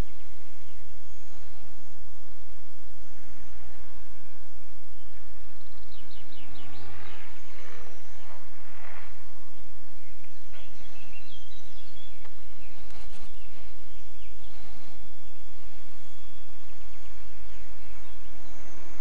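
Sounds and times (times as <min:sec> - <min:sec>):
birds calling and chirping: 0:00.0 - 0:19.0
steady low noise: 0:00.0 - 0:19.0.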